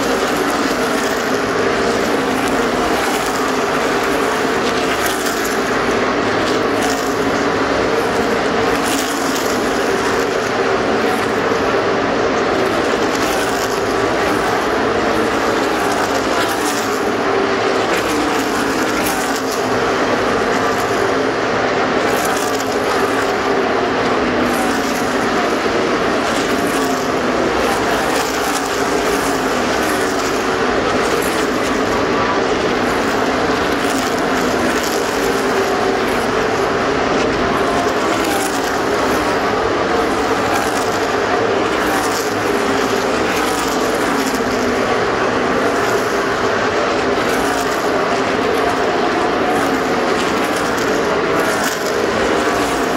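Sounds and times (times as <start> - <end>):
race car engines droning: 0.0 - 52.9.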